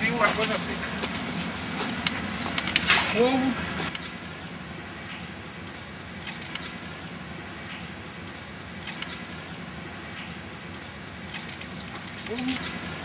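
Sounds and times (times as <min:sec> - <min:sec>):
small bird chirping: 0:01.4 - 0:02.9, 0:03.8 - 0:13.0.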